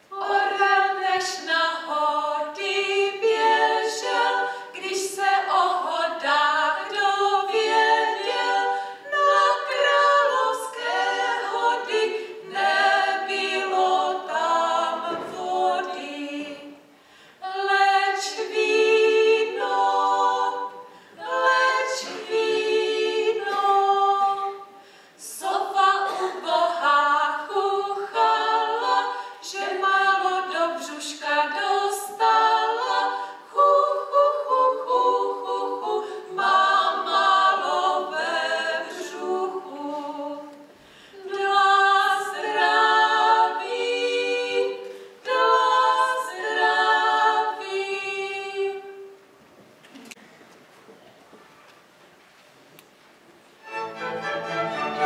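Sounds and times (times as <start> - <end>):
choir singing unaccompanied: 0.0 - 49.2, 53.6 - 55.0.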